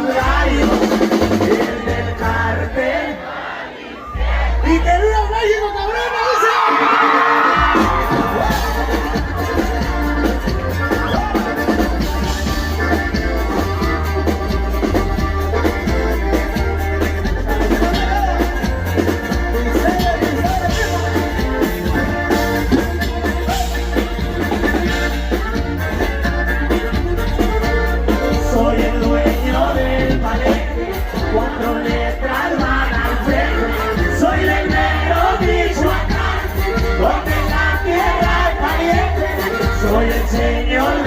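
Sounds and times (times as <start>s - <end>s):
band music with heavy bass and drums: 0.0s - 3.2s, 4.0s - 41.0s.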